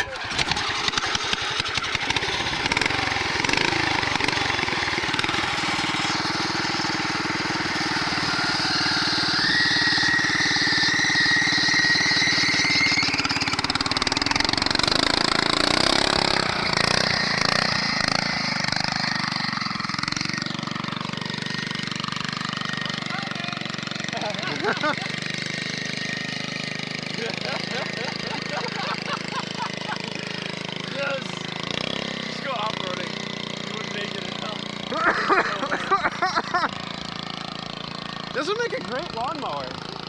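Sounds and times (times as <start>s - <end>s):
small engine running: 0.0s - 40.0s.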